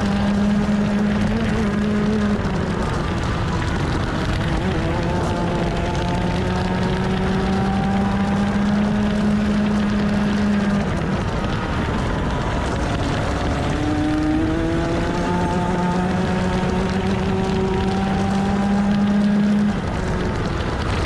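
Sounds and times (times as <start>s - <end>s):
kart engine at high revs: 0.0s - 21.0s
wind and road rush: 0.0s - 21.0s.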